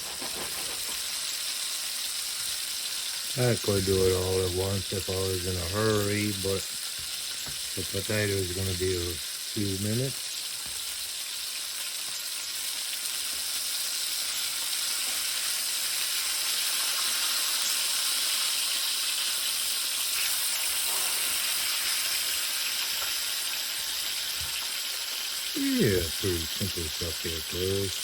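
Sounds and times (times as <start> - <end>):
food frying sizzle: 0.0 - 28.0.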